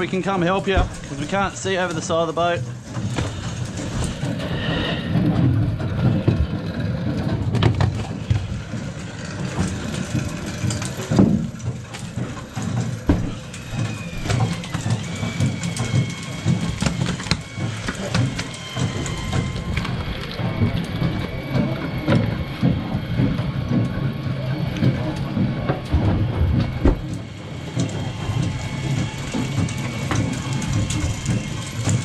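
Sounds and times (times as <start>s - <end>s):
boat machinery humming: 0.0s - 32.0s
fish and gear clattering on deck: 0.0s - 32.0s.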